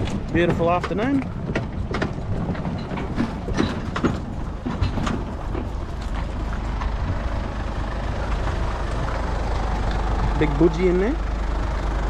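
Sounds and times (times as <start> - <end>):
boat motor rumbling: 0.0 - 12.0
knocks and rattles: 0.0 - 12.0.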